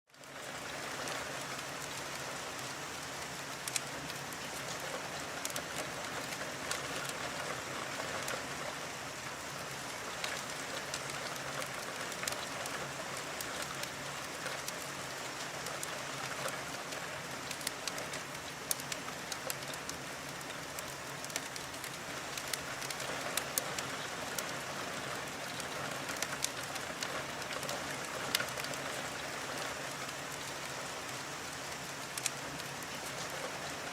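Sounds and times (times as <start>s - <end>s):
sharp ticks of raindrops: 0.1s - 33.9s
steady rain falling: 0.1s - 33.9s.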